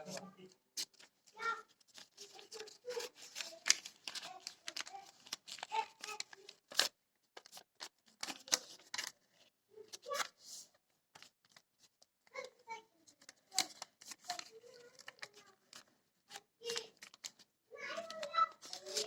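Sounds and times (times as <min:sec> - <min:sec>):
paper rustling and crackling: 0:00.8 - 0:19.0.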